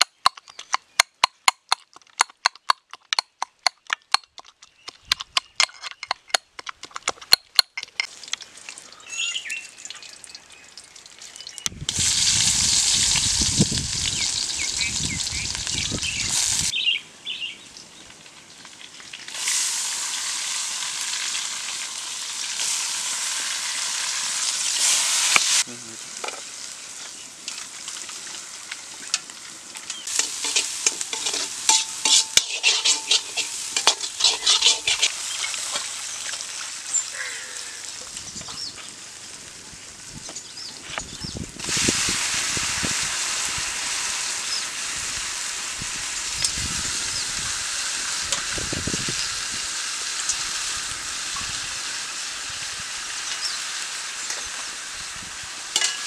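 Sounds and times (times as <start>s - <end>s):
ingredients sizzling in hot oil: 8.1s - 56.0s.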